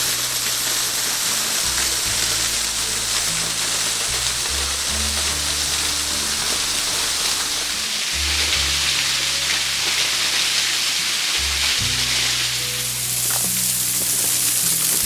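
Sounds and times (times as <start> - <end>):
background music: 0.0 - 15.0
waterfall splashing: 0.0 - 15.0.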